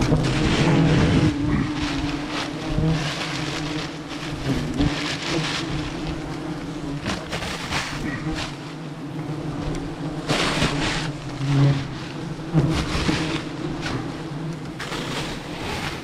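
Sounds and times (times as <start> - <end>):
paper nest rustling and crackling: 0.0 - 16.0
wasps buzzing: 0.0 - 16.0.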